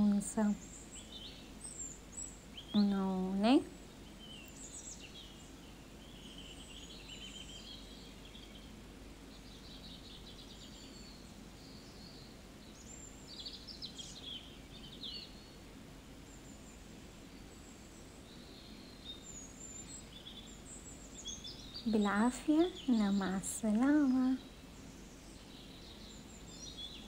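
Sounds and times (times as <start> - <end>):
low background hum: 0.0 - 27.0
small birds chirping and trilling: 0.0 - 27.0.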